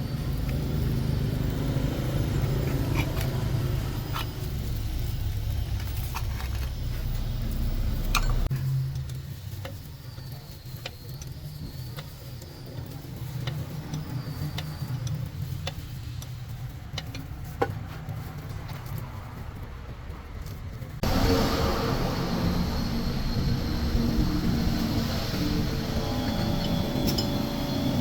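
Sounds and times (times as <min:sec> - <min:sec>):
steady low hum: 0:00.0 - 0:17.2, 0:20.9 - 0:28.0
hand tools tapping on metal: 0:00.2 - 0:21.1, 0:25.3 - 0:28.0.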